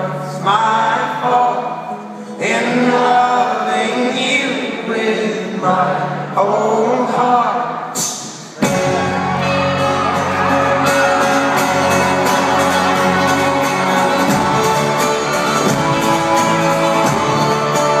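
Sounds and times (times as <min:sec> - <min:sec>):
live folk-rock band playing: 0:00.0 - 0:18.0.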